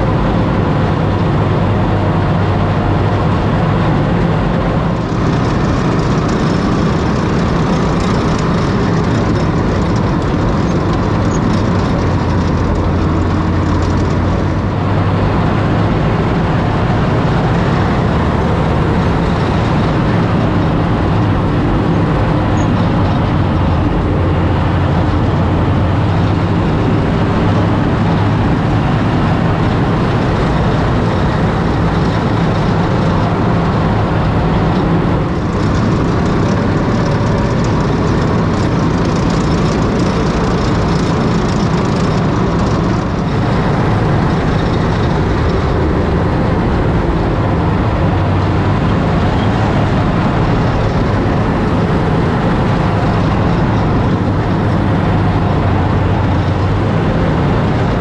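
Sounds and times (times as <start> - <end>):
tank engine running: 0.0 - 58.0.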